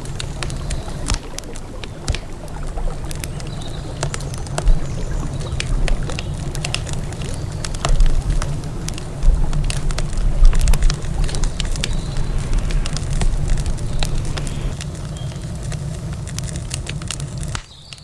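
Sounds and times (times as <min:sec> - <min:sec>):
river water rushing: 0:00.0 - 0:14.8
campfire crackling and popping: 0:00.0 - 0:18.0.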